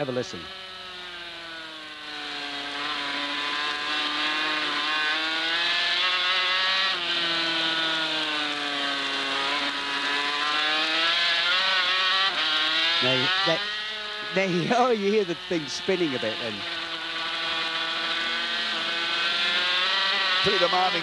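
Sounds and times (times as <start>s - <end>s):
racing motorcycle engine: 0.0s - 21.0s.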